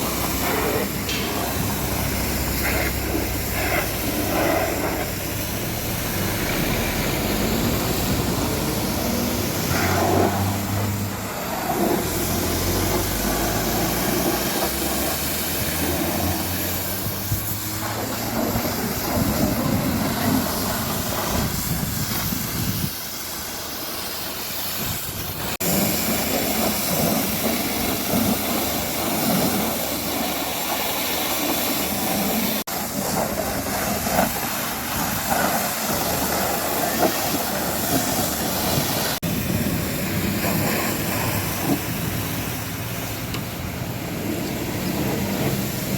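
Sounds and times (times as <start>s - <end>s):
high-pressure water spray hissing: 0.0s - 45.9s.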